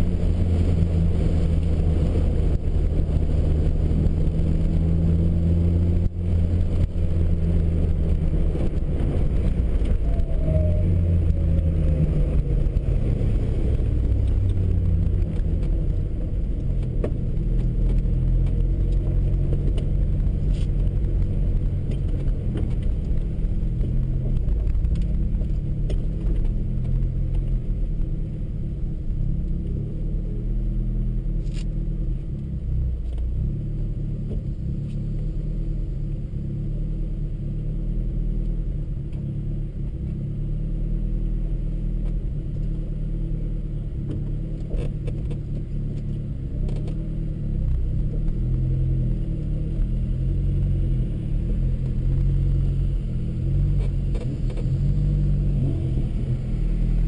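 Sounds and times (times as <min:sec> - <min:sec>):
car engine at low revs: 0:00.0 - 0:57.0.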